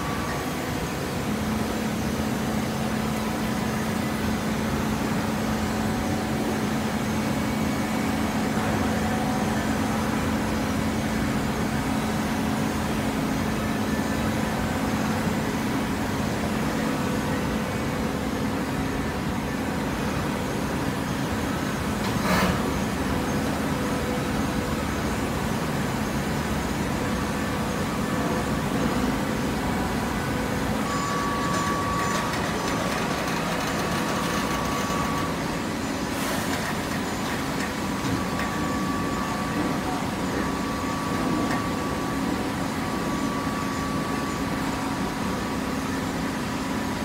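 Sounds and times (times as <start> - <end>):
baler mechanical drone: 0.0 - 47.0
power unit hum: 0.0 - 47.0.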